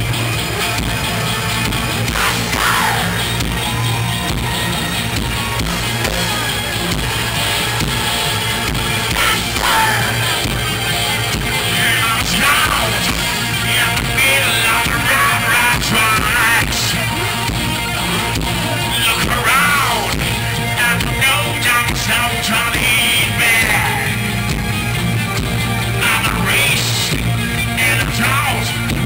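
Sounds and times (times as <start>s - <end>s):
rock band playing live: 0.0s - 29.0s
person singing: 2.0s - 24.2s, 25.9s - 29.0s.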